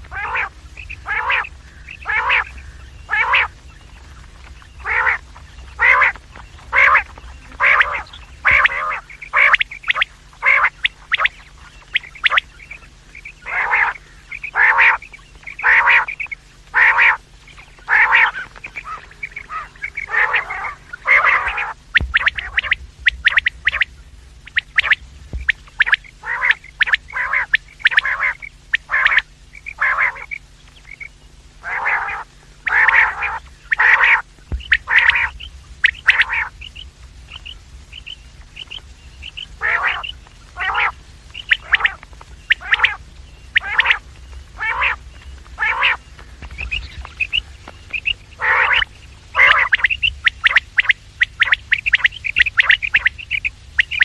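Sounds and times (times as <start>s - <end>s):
quails calling: 0.0s - 54.0s
thin high chirping: 0.0s - 54.0s.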